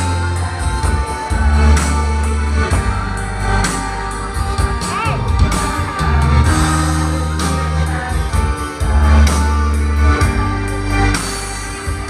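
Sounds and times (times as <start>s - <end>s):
bass notes: 0.0s - 12.0s
guitar: 0.0s - 12.0s
instrumental band music: 0.0s - 12.0s.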